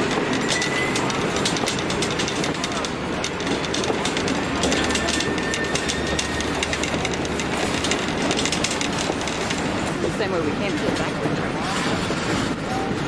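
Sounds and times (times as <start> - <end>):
train wheels clacking over rails: 0.0 - 13.0.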